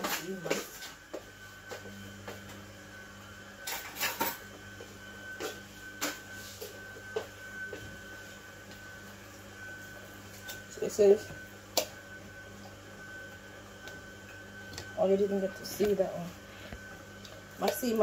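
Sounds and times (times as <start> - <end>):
steady low hum: 0.3 - 18.0.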